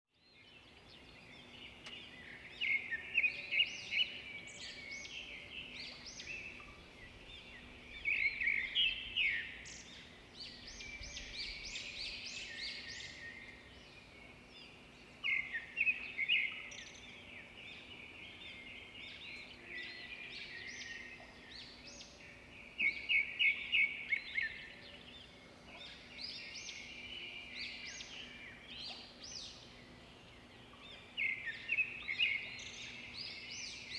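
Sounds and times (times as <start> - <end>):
birds chirping and trilling: 0.2 - 33.9.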